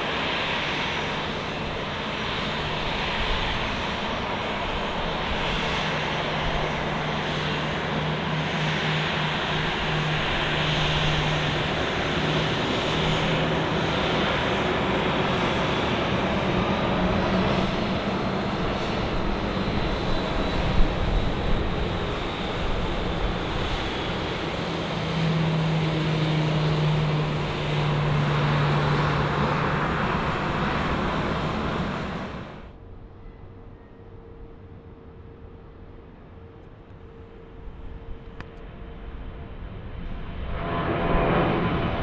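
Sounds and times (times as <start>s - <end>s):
jet engines taxiing: 0.0s - 42.0s.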